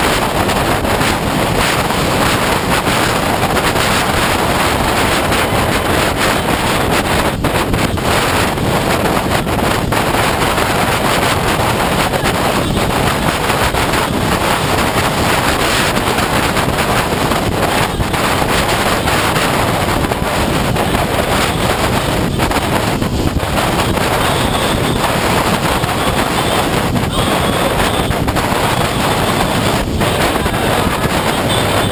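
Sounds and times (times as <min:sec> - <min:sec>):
motorcycle engine: 0:00.0 - 0:31.9
road noise: 0:00.0 - 0:31.9
wind rushing over microphone: 0:00.0 - 0:31.9.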